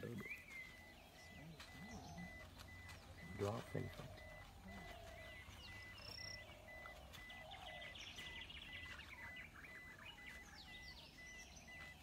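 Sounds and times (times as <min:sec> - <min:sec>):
birds chirping: 0:00.0 - 0:12.0
faint high beep: 0:00.0 - 0:12.0.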